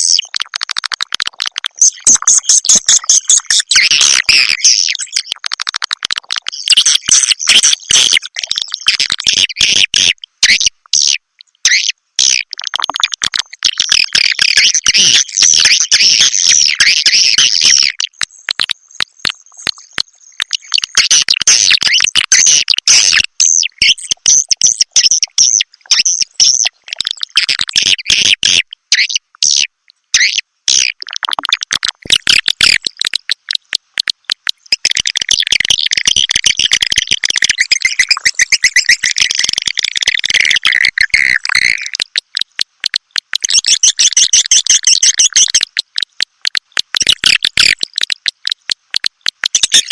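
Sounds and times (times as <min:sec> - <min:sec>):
recorded swiftlet calls: 0:00.0 - 0:49.9.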